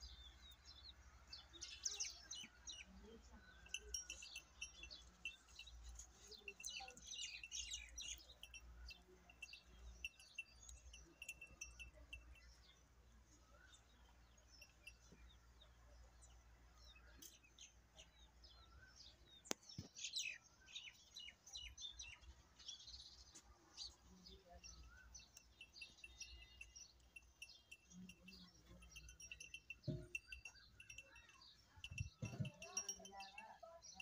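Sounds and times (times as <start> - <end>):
faint birds chirping: 0.0 - 34.0.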